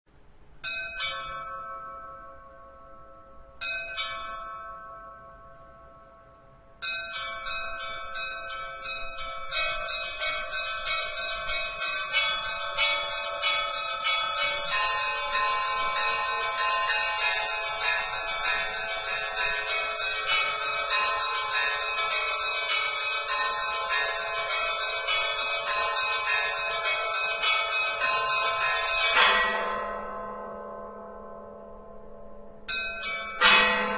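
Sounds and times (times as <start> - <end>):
church bells ringing: 0.6 - 33.9.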